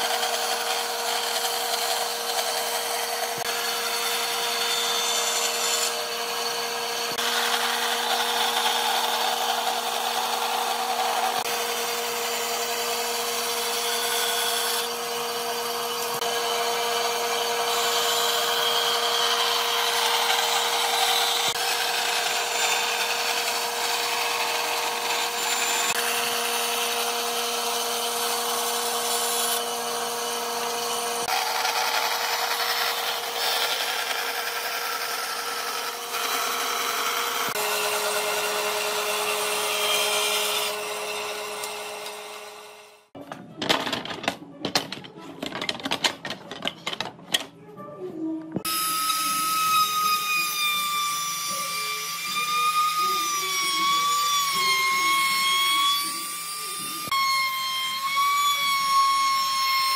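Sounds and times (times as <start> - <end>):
bandsaw cutting wood: 0.0 - 43.2, 48.6 - 59.9.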